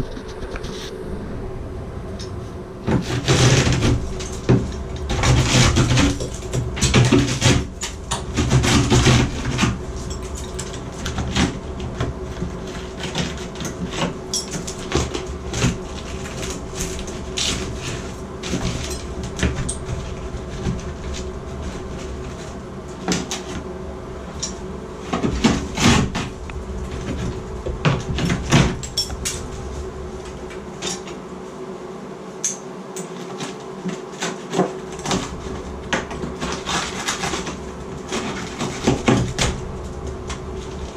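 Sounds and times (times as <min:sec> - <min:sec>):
steady low hum: 0:00.0 - 0:40.9
knocks and clatter of plumbing work: 0:02.2 - 0:23.6, 0:24.3 - 0:29.6, 0:32.4 - 0:40.9.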